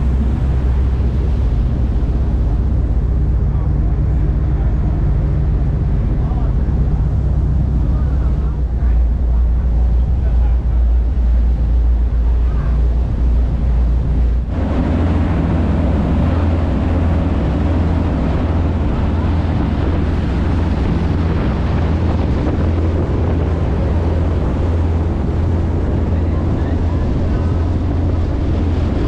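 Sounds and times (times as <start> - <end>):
churned water rushing: 0.0 - 29.0
ferry engine droning: 0.0 - 29.0
wind buffeting microphone: 0.0 - 29.0.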